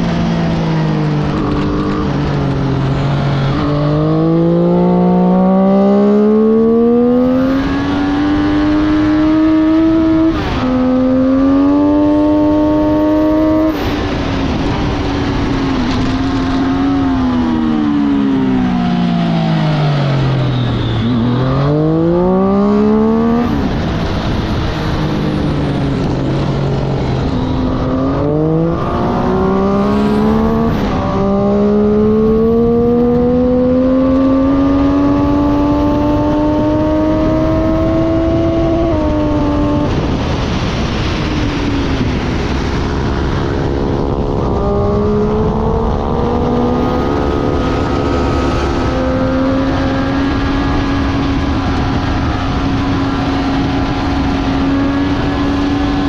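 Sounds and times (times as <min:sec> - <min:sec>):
motorcycle engine revving: 0:00.0 - 0:56.0
rushing wind noise: 0:00.0 - 0:56.0.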